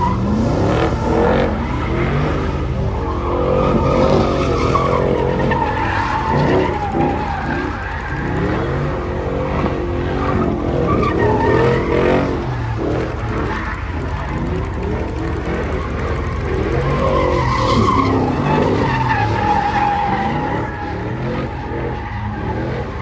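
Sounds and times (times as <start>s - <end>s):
car engine running hard: 0.0s - 23.0s
car tires squealing: 0.0s - 23.0s.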